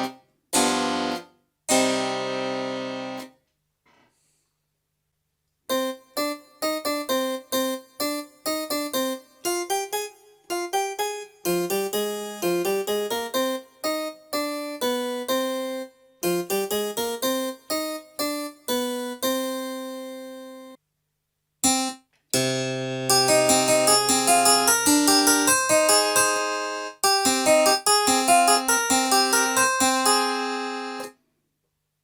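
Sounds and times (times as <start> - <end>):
keyboard playing piano tone: 0.0 - 3.3, 5.7 - 20.8, 21.6 - 31.1.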